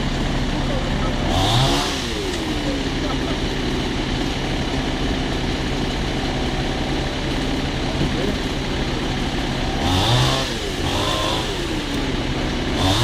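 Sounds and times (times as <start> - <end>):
fire engine motor running: 0.0 - 13.0.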